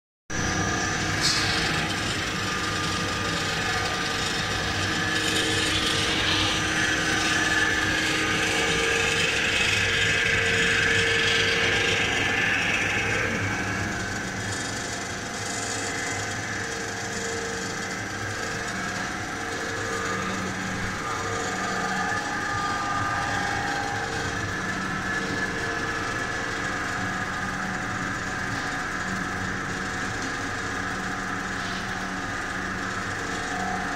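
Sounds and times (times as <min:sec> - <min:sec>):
extruder motors humming and whining: 0:00.3 - 0:33.9.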